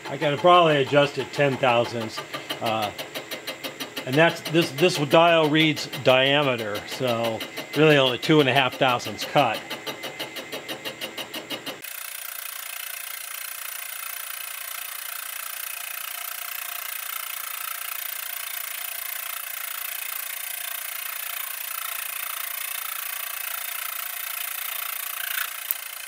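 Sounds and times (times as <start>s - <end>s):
mill spindle boring steel: 0.0s - 26.0s.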